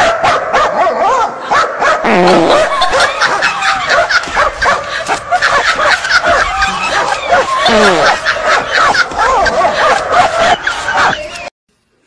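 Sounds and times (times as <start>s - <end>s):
dog barking and yipping: 0.0s - 2.0s, 2.6s - 11.5s.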